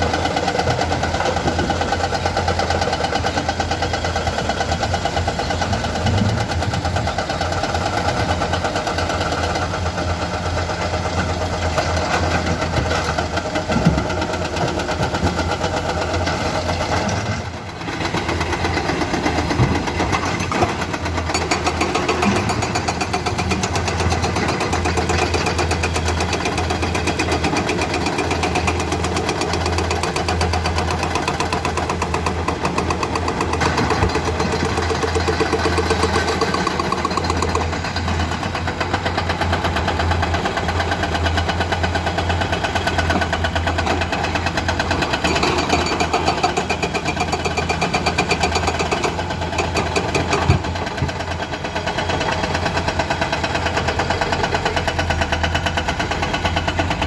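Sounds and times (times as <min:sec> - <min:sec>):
heavy diesel machinery engine running: 0:00.0 - 0:57.0.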